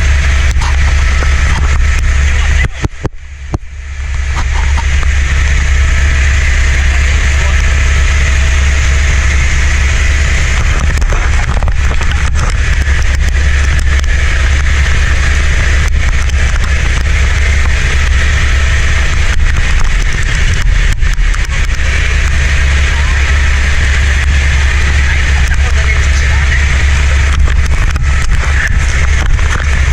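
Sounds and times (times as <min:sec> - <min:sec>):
helicopter cabin drone: 0:00.0 - 0:29.9.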